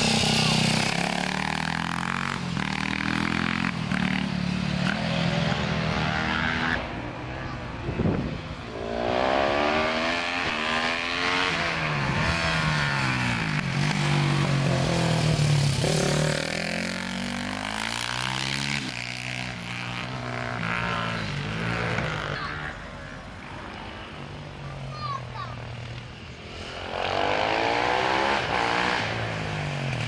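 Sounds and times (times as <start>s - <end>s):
motorcycle engine at racing revs: 0.0s - 6.9s, 8.7s - 22.7s, 26.4s - 30.0s.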